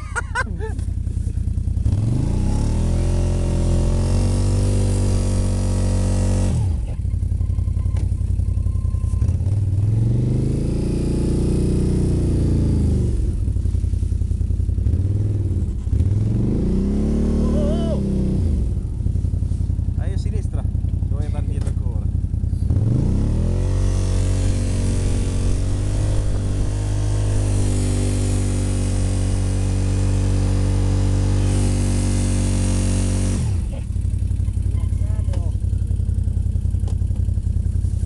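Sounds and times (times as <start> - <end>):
quad engine revving: 0.0 - 7.0, 9.2 - 13.6, 14.7 - 19.1, 20.5 - 37.5.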